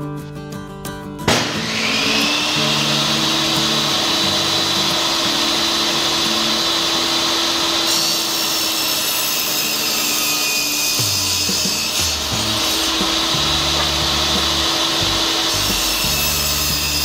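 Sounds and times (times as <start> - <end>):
table saw running: 1.3 - 17.0.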